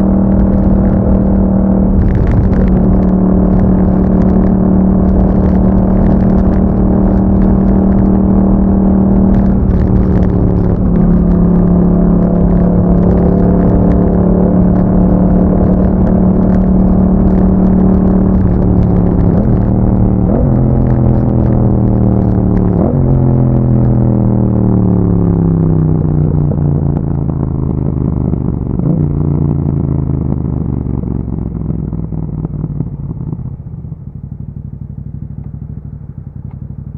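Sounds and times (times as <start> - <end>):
motorcycle engine cruising: 0.0 - 36.9.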